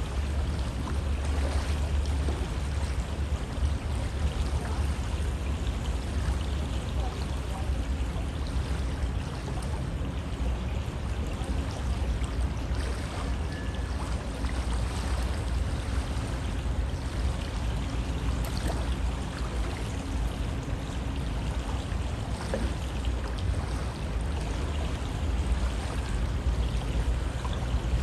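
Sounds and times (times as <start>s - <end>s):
river flowing: 0.0s - 28.0s.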